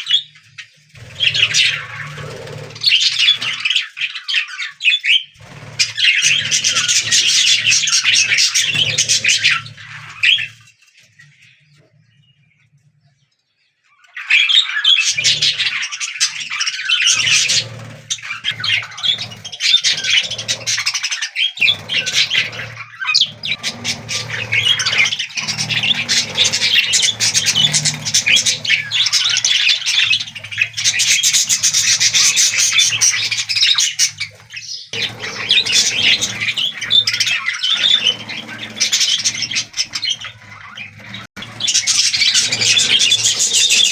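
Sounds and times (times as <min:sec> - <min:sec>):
budgerigars chattering and squawking: 0:00.0 - 0:12.4, 0:14.0 - 0:43.9.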